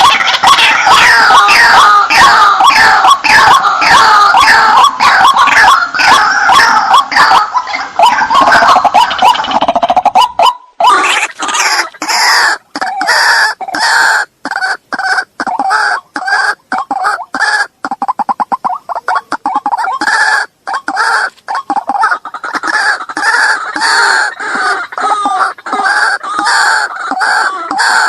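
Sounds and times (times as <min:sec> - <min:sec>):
waterhen harsh calls: 0:00.0 - 0:28.0.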